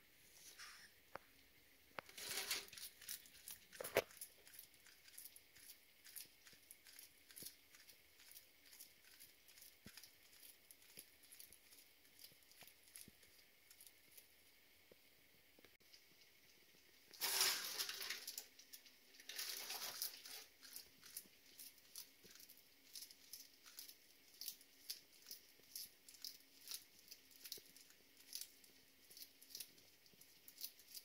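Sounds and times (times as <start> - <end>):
lizard chewing crunchily: 2.0 - 14.6, 17.6 - 31.0
crackling rustle: 2.0 - 15.0, 15.6 - 31.0.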